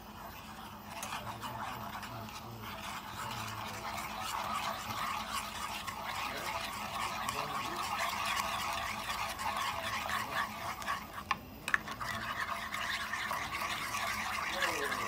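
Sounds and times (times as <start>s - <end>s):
faint low hum: 0.0s - 15.0s
utensil scraping cookware: 0.0s - 15.0s.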